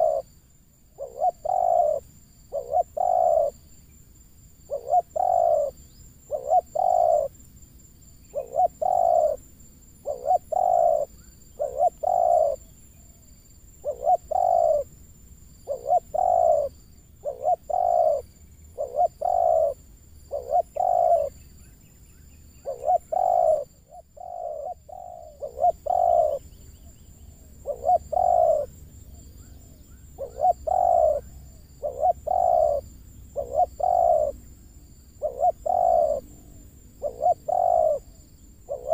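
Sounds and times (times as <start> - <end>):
dove cooing: 0.0 - 0.3, 1.0 - 3.6, 4.7 - 7.3, 8.3 - 9.4, 10.0 - 12.7, 13.8 - 14.9, 15.6 - 21.4, 22.6 - 34.4, 35.2 - 38.9.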